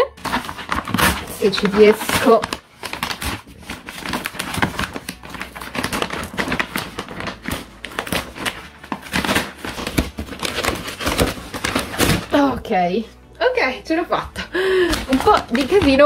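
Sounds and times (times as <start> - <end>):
paper bag crinkling and tearing: 0.0 - 12.6, 14.5 - 16.0.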